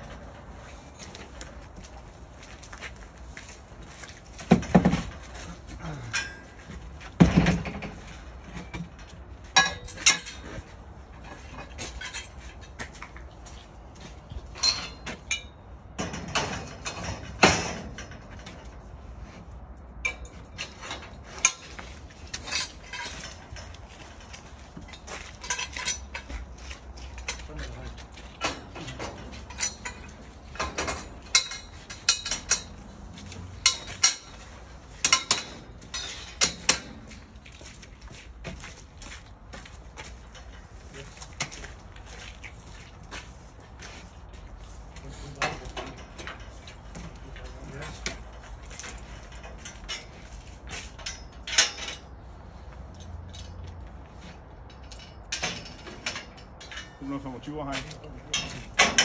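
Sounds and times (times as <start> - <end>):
metal scaffold tubes clinking: 0.0 - 59.0.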